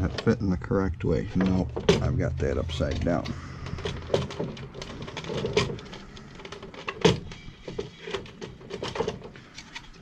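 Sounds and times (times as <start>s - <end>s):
plastic parts clicking and knocking: 1.3s - 10.0s.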